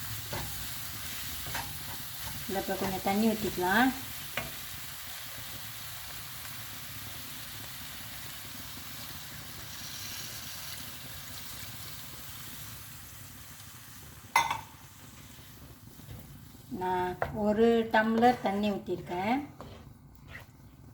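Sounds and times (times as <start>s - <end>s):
gravy simmering in a pan: 0.0s - 16.9s.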